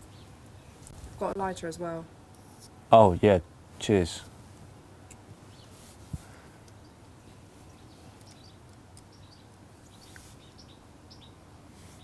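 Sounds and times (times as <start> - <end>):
small birds chirping: 0.0 - 4.1, 5.0 - 12.0.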